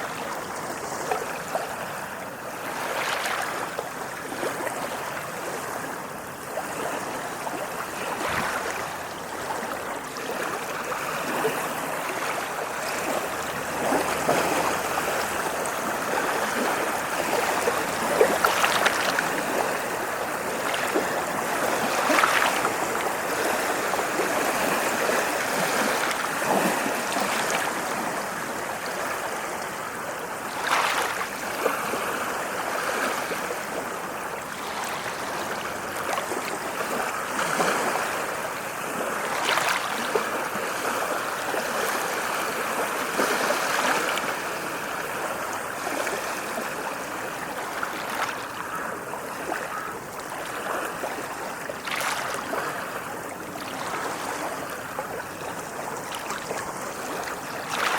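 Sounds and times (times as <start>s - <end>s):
ocean waves washing on shore: 0.0s - 57.9s
waves splashing: 0.0s - 57.9s.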